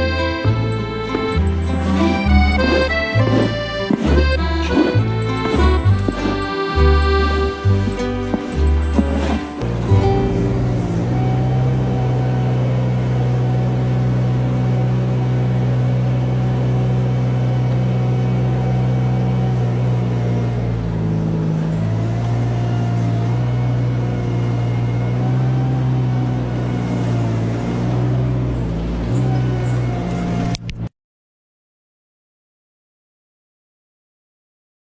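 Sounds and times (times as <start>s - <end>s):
engine running with low hum: 0.0s - 30.9s.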